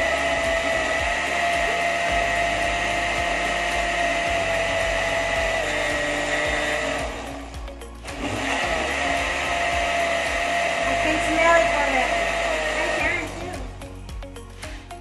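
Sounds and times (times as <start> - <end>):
blender motor whine: 0.0 - 15.0.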